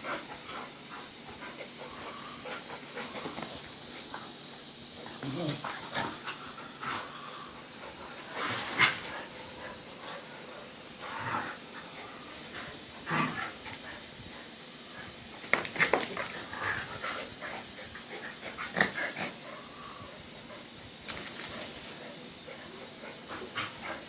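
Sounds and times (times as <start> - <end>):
dogs play-wrestling vocalizing: 0.0 - 24.0.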